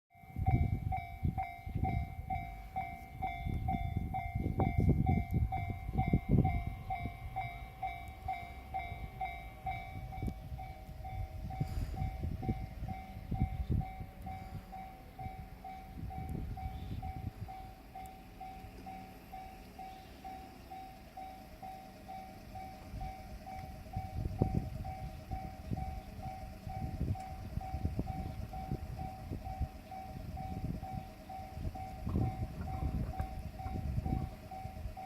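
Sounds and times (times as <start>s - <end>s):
level crossing warning bell: 0.1s - 35.0s
train rumbling past: 0.2s - 35.0s.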